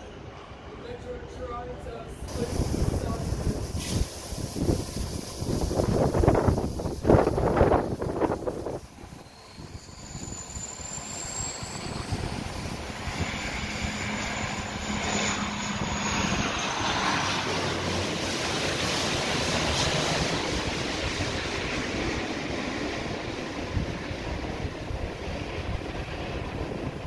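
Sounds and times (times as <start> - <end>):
faint high jet whine: 0.0 - 27.0
jet aircraft rushing overhead: 0.0 - 27.0.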